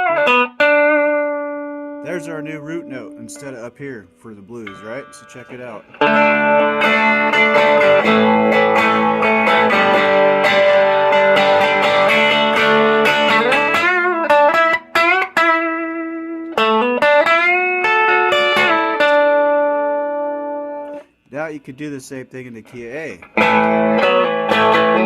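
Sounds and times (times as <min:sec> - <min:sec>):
electric guitar country lick: 0:00.0 - 0:25.0.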